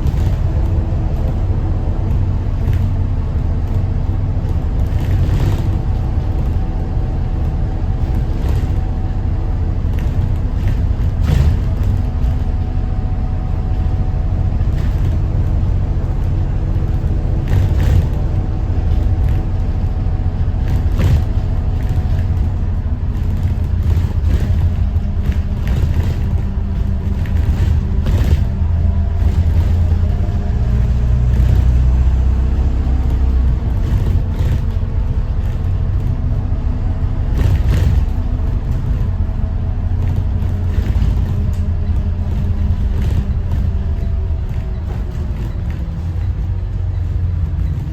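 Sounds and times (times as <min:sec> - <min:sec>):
bus body rattling and knocking: 0:00.0 - 0:47.9
diesel bus engine rumbling: 0:00.0 - 0:47.9.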